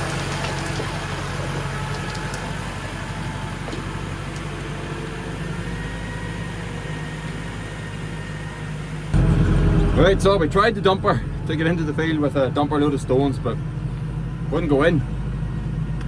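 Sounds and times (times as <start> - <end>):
farm machine engine humming: 0.0 - 16.0.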